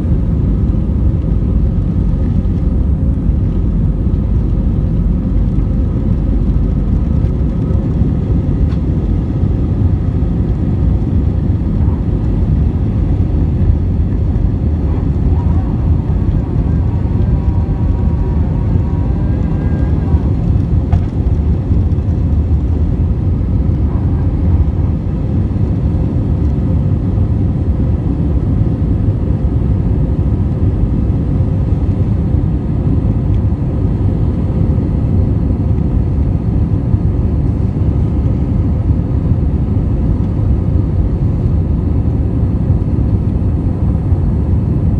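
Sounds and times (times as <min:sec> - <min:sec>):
faint hum: 0:00.0 - 0:44.9
jet engine cabin rumble: 0:00.0 - 0:44.9.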